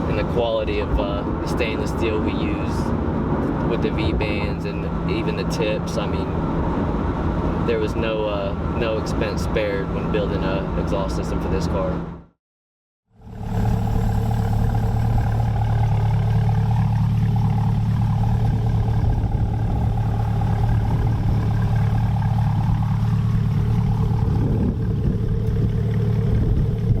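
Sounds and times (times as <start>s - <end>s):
car engine droning steadily: 0.0s - 12.3s, 13.1s - 27.0s.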